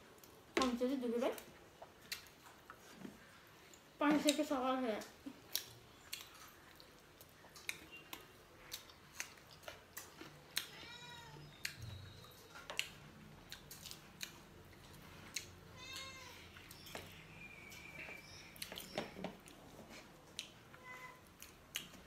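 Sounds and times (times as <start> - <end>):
people chewing with lip smacks: 1.3 - 22.0.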